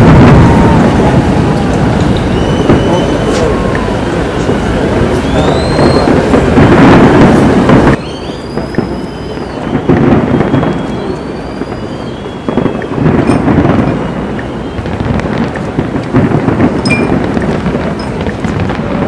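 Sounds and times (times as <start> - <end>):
faint firework whistles: 0.0 - 19.0
fireworks booming: 0.0 - 19.0
fireworks crackling: 0.0 - 19.0.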